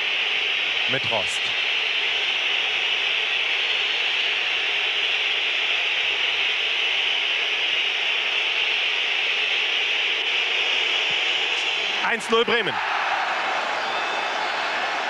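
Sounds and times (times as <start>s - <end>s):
stadium crowd din: 0.0s - 15.0s.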